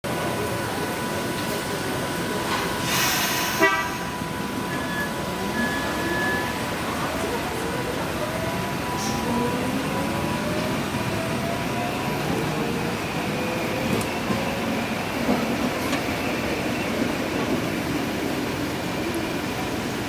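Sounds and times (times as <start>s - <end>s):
wheels rumbling on rails: 0.0s - 20.0s
tram motors whining: 0.1s - 20.0s.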